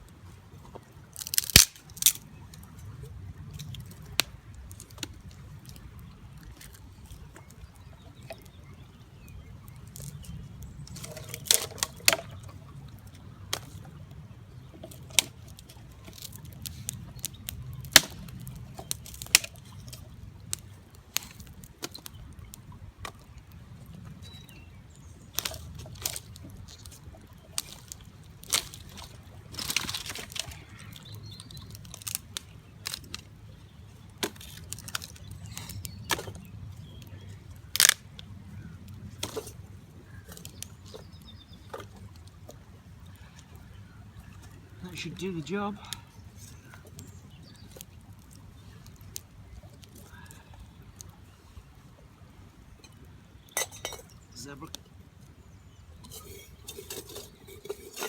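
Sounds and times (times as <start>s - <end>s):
campfire crackling and popping: 1.0s - 8.6s, 9.6s - 43.3s, 44.6s - 51.2s, 56.0s - 58.0s.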